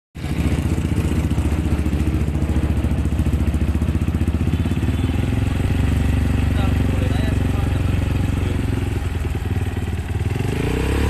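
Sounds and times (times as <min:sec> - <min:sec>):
dirt bike engine idling: 0:00.2 - 0:11.0.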